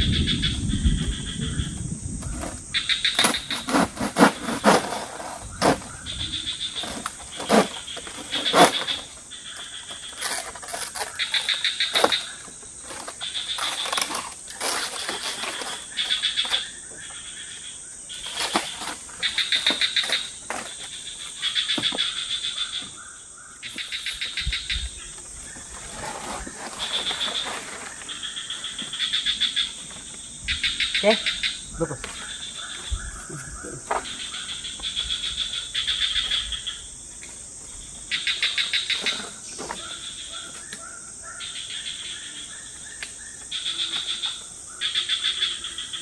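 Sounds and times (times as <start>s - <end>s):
insects chirping in pulsed trills: 0.0s - 46.0s
steady high insect tone: 0.0s - 46.0s.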